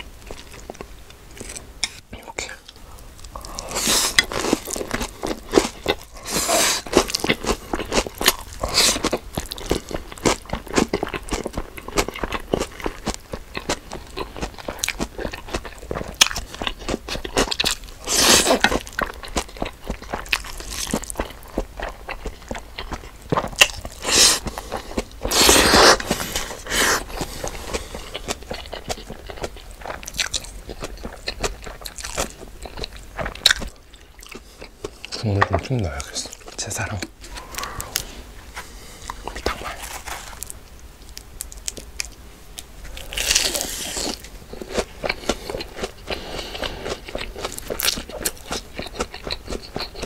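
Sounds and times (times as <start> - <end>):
chewing and crunching: 0.0 - 50.0.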